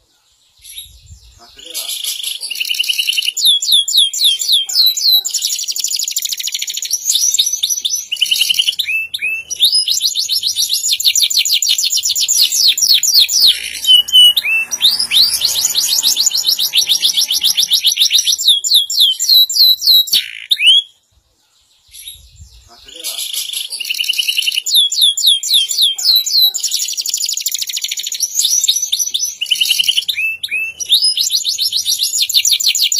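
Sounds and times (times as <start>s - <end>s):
canary singing trills: 0.0s - 21.1s, 21.7s - 32.9s.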